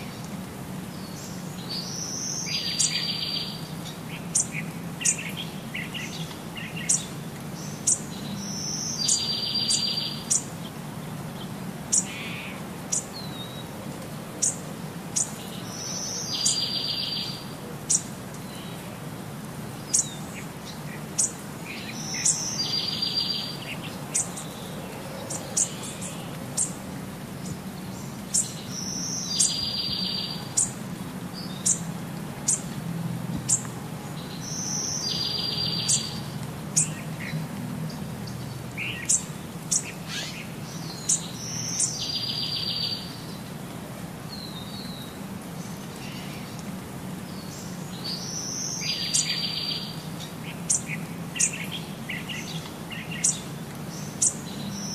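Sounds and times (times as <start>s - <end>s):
birds chirping: 0.9s - 13.8s, 14.4s - 19.0s, 19.7s - 43.6s, 44.2s - 54.9s.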